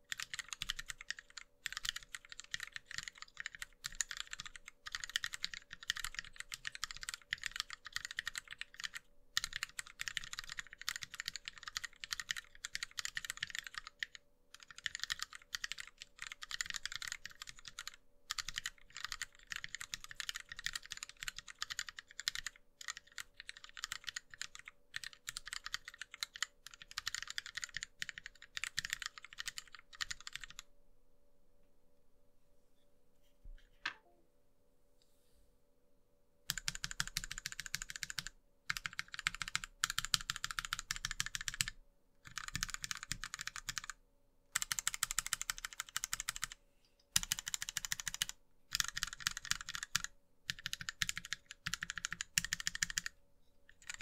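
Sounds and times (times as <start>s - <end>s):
fast mechanical keyboard typing: 0.1s - 30.6s, 36.5s - 44.0s, 44.6s - 54.0s.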